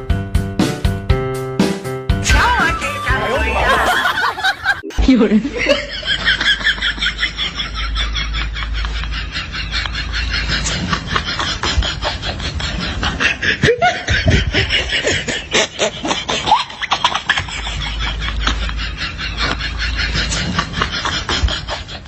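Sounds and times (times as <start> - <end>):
people giggling and snickering: 2.3 - 22.0.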